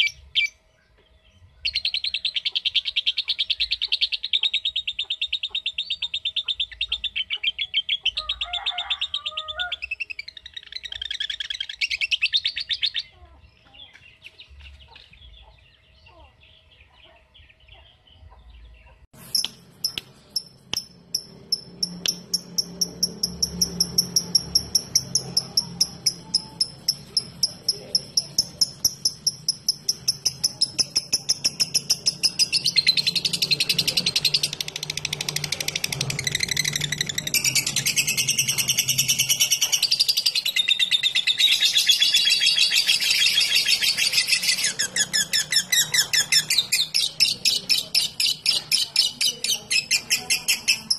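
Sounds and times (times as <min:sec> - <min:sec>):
lovebird chirping and trilling: 0:01.6 - 0:13.2, 0:19.2 - 0:50.9.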